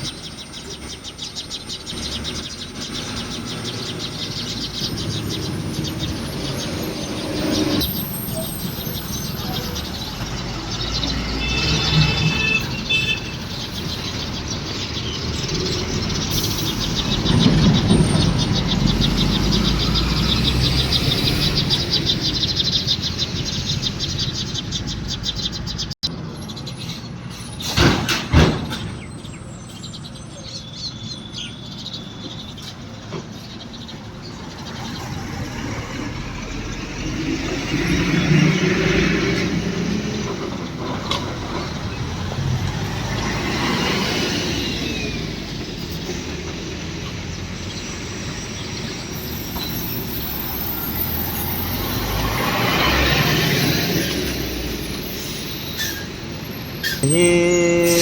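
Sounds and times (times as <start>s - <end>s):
birds chirping: 0.0s - 27.9s, 28.6s - 58.0s.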